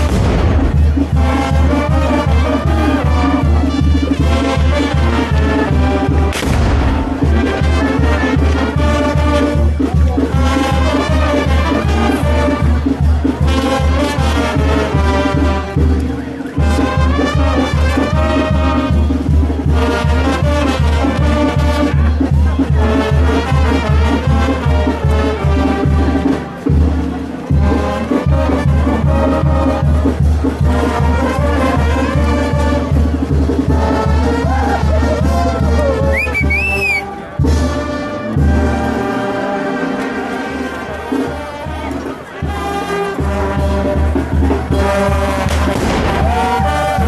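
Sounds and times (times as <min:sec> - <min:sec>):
latin brass band music: 0:00.0 - 0:47.0.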